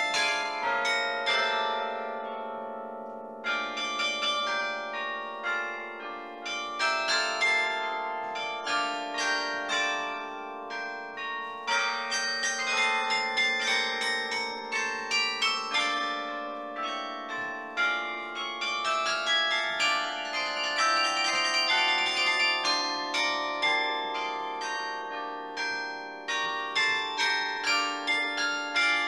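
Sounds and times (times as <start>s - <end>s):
carillon bells playing: 0.0s - 29.0s
low bells ringing: 0.0s - 29.0s.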